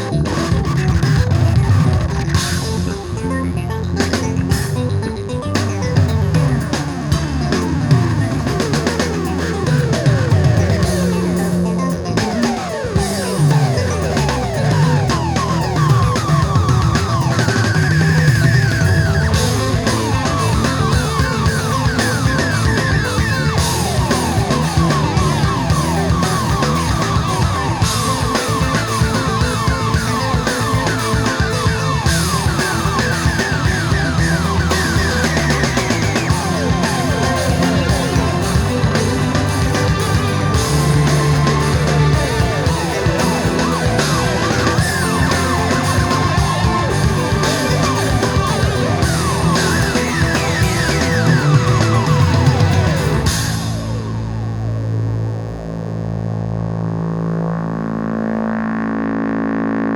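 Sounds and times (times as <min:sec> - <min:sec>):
rock music with drums and guitar: 0:00.0 - 0:55.0.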